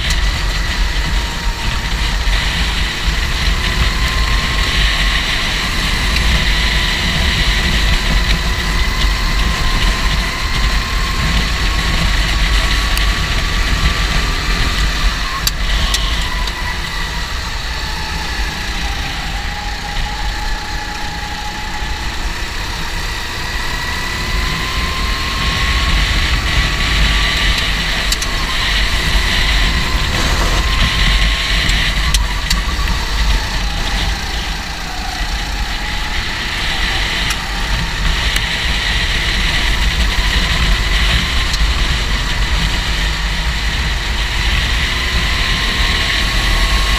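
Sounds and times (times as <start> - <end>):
go-kart engine running: 0.0 - 46.9.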